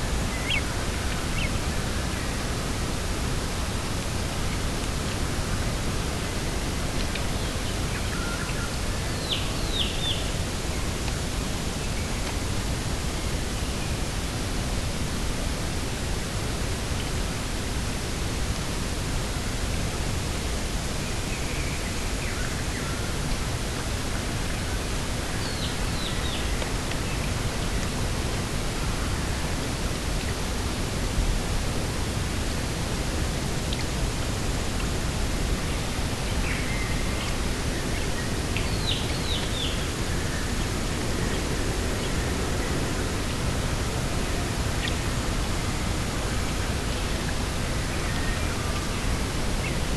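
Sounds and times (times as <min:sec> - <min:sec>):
steady rushing outdoor noise: 0:00.0 - 0:49.9.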